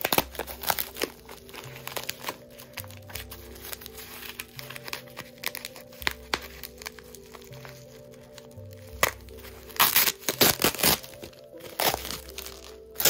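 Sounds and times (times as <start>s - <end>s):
bubble wrap crinkling: 0.0s - 13.0s
soft background music: 0.0s - 13.0s.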